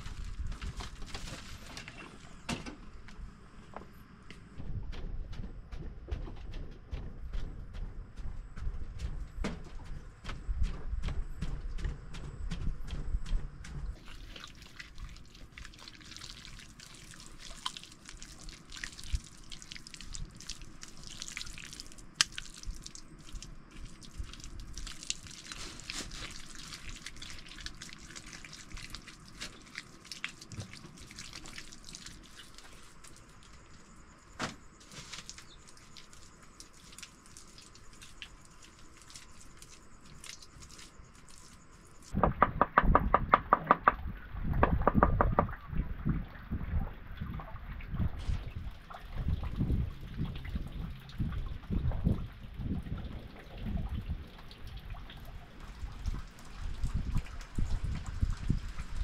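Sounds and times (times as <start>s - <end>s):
water dripping and splashing: 0.0s - 2.6s, 12.9s - 42.7s, 43.3s - 59.0s.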